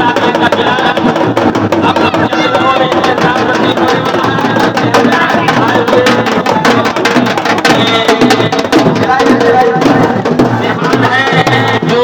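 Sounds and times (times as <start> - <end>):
fast drumming: 0.0 - 12.0.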